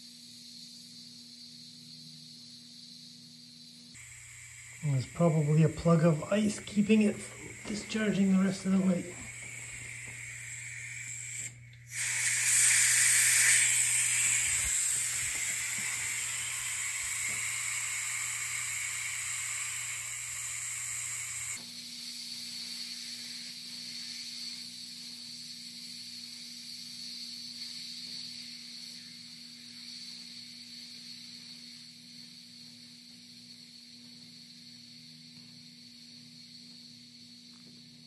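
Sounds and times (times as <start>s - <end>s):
compressed air hissing: 0.0s - 38.0s.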